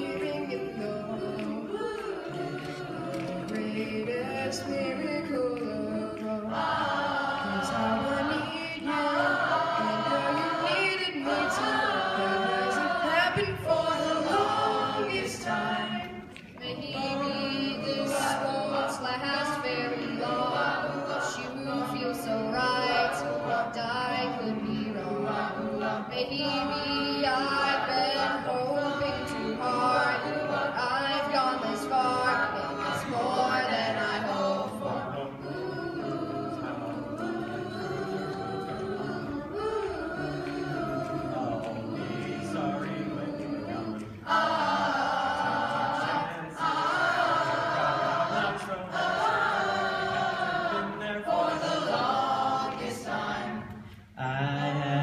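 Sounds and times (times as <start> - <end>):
boys' chorus singing a cappella: 0.0 - 55.0.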